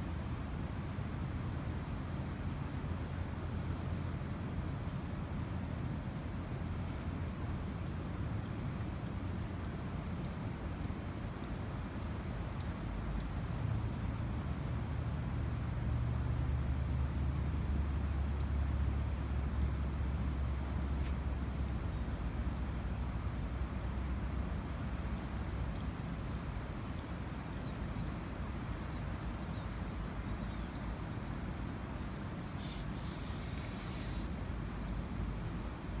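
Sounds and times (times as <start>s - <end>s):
high insect trill: 0.0s - 36.0s.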